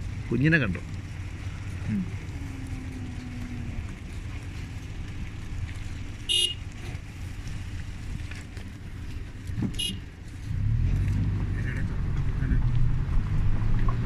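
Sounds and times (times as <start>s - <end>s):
car rumbling slowly: 0.0s - 14.0s.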